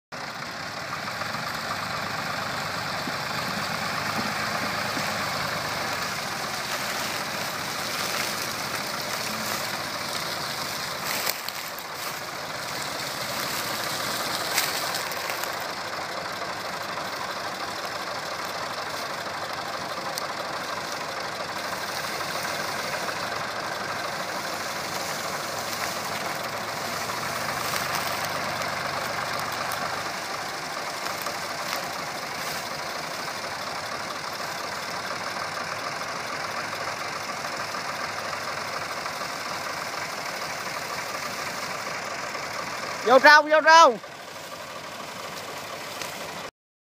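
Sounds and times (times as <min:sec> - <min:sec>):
tractor engines running: 0:00.1 - 0:46.5.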